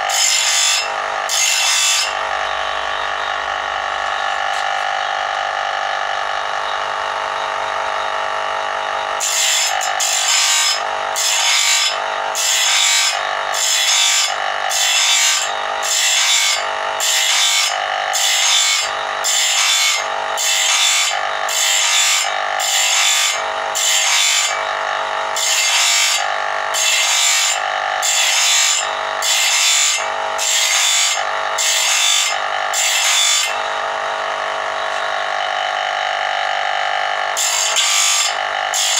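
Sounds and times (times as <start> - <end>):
bench grinder running: 0.0 - 38.9
grinding wheel rasping steel: 0.0 - 38.9.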